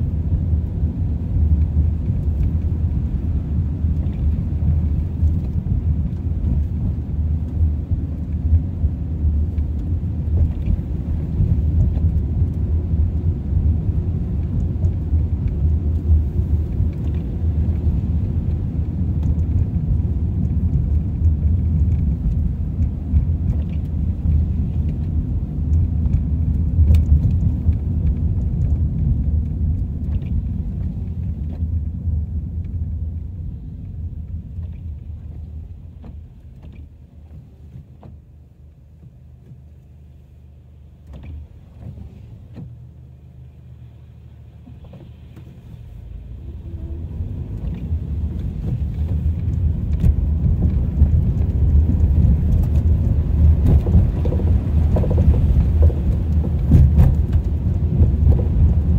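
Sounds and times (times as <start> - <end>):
car driving rumble: 0.0 - 58.9
road and tyre noise: 0.0 - 58.9.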